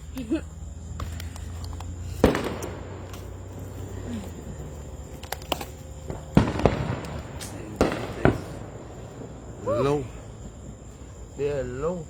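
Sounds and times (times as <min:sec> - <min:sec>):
firework bangs: 0:00.6 - 0:12.0
faint firework cracks: 0:00.8 - 0:12.0.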